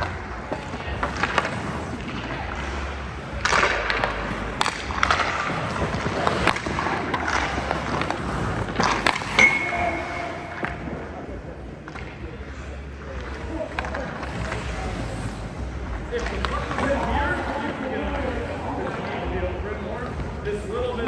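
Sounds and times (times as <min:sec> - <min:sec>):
hockey stick clacking on pucks: 0:00.0 - 0:11.2, 0:11.8 - 0:15.4, 0:16.1 - 0:20.6
pucks hitting goalie pads: 0:00.0 - 0:21.0
skate blades scraping ice: 0:00.0 - 0:21.0.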